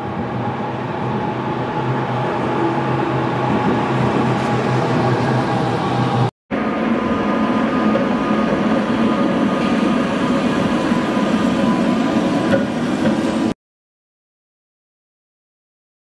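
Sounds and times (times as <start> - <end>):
tram hums: 0.0 - 13.6.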